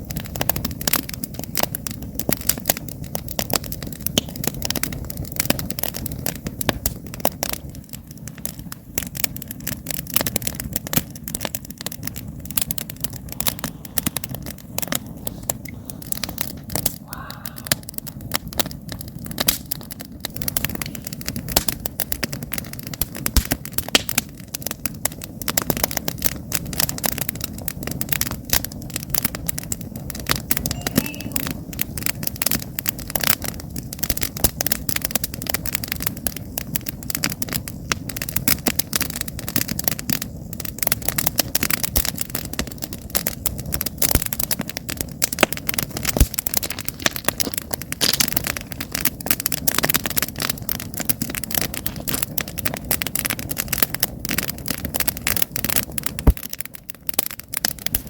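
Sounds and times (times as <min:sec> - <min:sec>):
campfire logs crackling: 0:00.0 - 0:58.0
low rumble of fire: 0:00.0 - 0:58.0.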